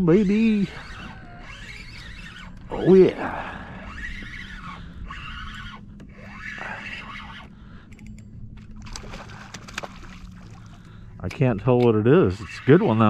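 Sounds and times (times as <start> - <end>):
fishing reel whirring: 0.0 - 11.0, 11.9 - 13.0
reel clicks: 0.2 - 13.0.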